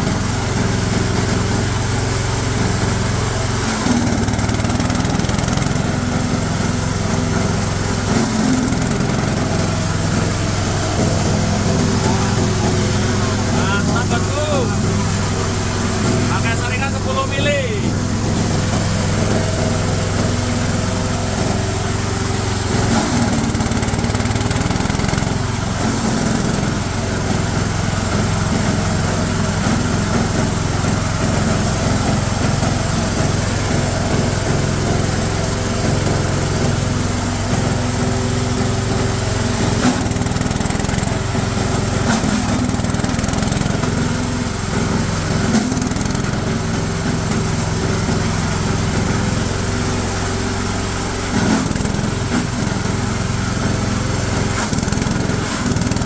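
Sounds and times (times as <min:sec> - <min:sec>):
chopper grinder running: 0:00.0 - 0:56.0.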